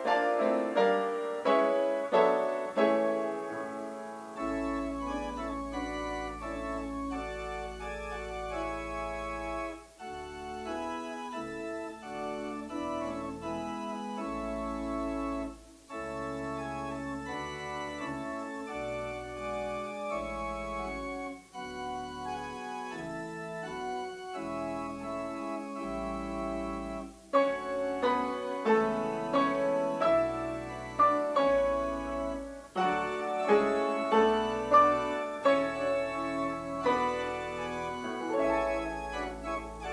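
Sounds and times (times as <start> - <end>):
church organ chords: 0.0 - 39.9
piano notes: 0.0 - 39.9.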